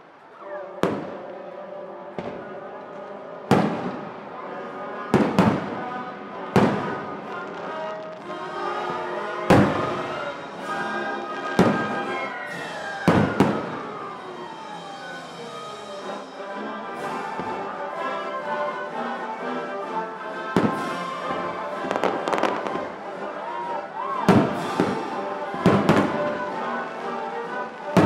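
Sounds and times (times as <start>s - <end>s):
music playing: 0.0s - 28.0s.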